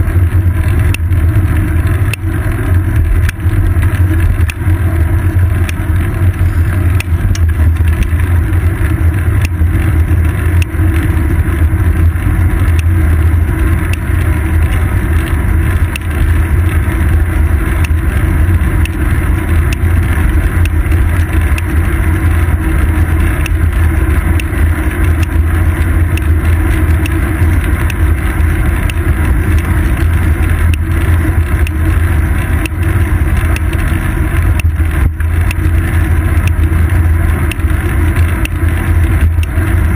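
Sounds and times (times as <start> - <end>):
wind and road rumble: 0.0 - 39.9
small clicks from bumps: 0.1 - 39.9.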